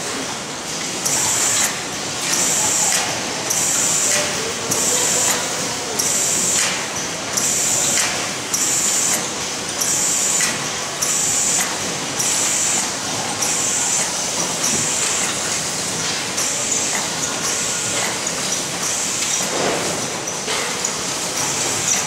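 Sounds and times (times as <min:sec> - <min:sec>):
conveyor machinery running: 0:00.0 - 0:22.0.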